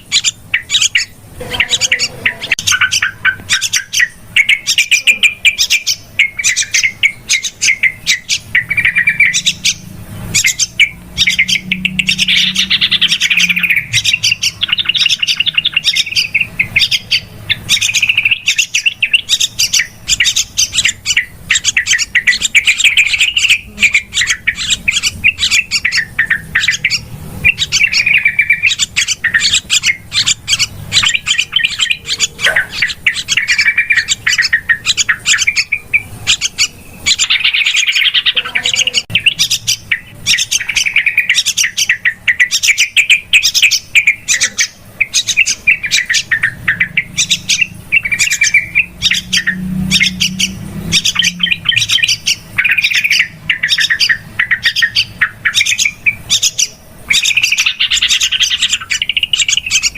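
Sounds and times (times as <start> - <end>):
bulbuls chattering chirps: 0.0 - 59.9.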